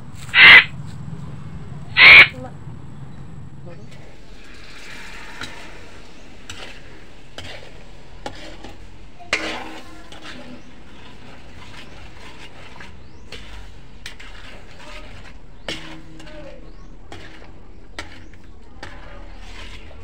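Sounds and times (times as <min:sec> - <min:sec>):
metal ladle scraping a wok: 0:00.2 - 0:00.7, 0:02.0 - 0:02.3, 0:04.2 - 0:20.0.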